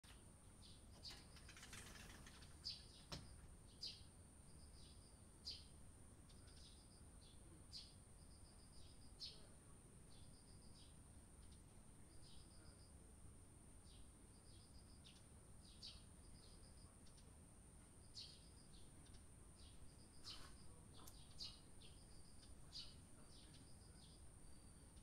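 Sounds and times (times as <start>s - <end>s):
sparrows chirping: 0.1s - 12.9s, 13.8s - 17.4s, 18.0s - 25.0s.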